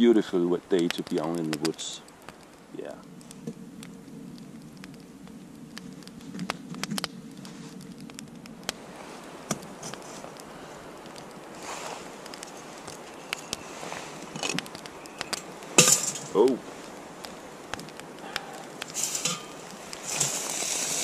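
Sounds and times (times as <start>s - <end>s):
low hiss of fire: 0.0s - 21.0s
wood fire crackling and popping: 0.0s - 21.0s.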